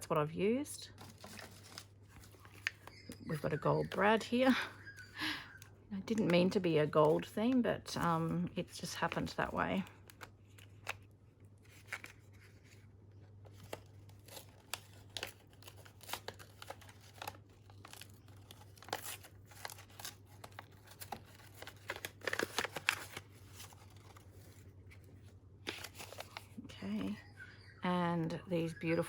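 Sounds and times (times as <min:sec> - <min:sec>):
packets crinkling and rustling: 0:00.9 - 0:27.2.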